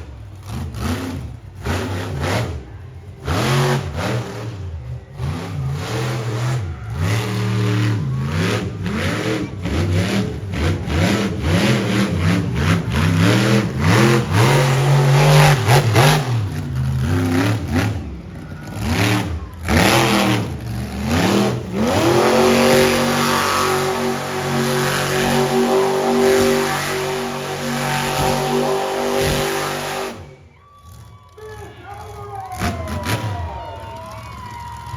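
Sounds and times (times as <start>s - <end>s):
truck engine revving: 0.0s - 31.1s, 32.0s - 34.9s.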